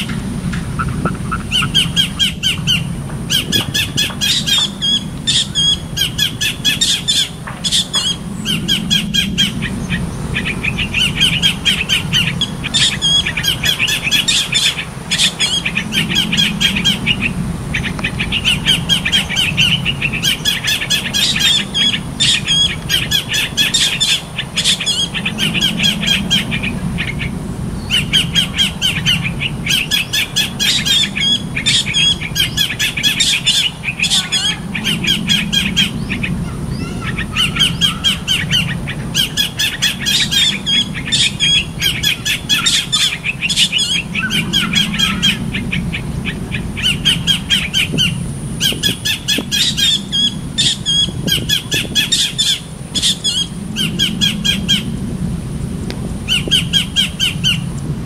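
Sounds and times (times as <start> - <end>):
bird calling in sharp chirps: 0.0 - 55.0, 56.2 - 57.7.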